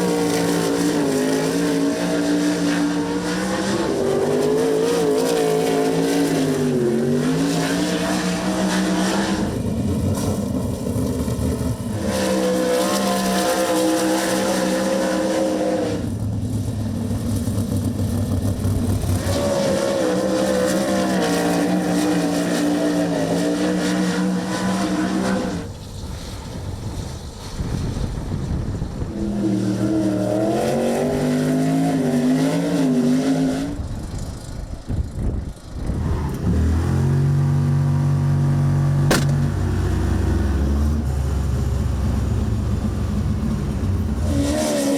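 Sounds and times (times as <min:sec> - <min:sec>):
race car engines passing: 0:00.0 - 0:27.0, 0:28.7 - 0:34.5, 0:35.9 - 0:44.9.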